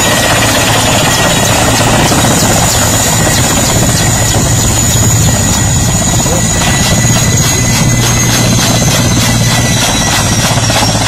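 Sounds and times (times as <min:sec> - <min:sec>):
helicopter rotor and engines: 0:00.0 - 0:11.0
thin high whine: 0:00.0 - 0:11.0.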